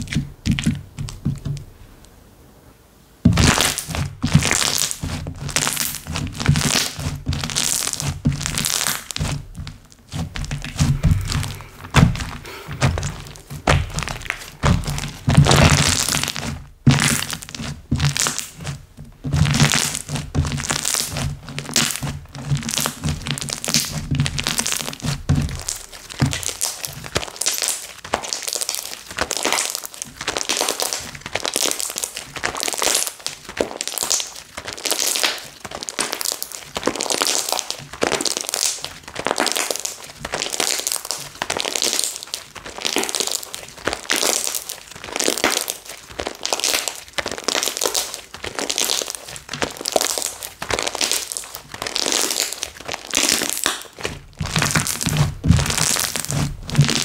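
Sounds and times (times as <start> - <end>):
slime crackling and popping: 3.3 - 57.0.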